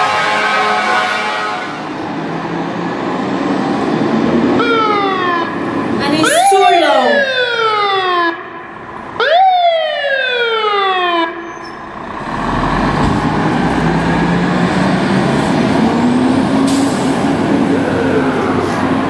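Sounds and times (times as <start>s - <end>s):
fire truck siren wailing: 0.0s - 2.7s, 4.5s - 19.0s
truck engine and road noise: 0.0s - 19.0s.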